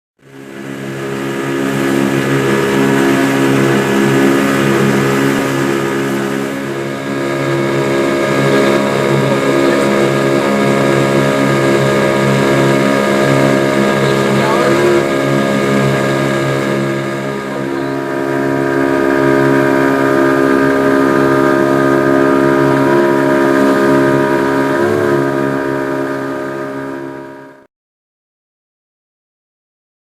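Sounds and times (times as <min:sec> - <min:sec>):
engine droning hum: 0:00.2 - 0:27.6.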